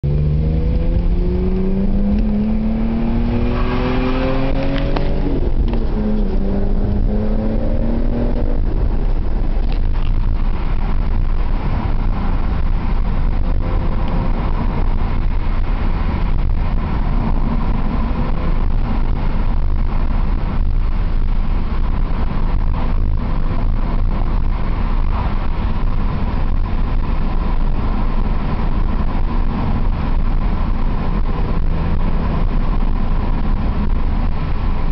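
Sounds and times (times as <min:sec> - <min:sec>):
car engine accelerating: 0:00.0 - 0:34.9
exhaust drone: 0:00.0 - 0:34.9
road noise: 0:00.0 - 0:34.9.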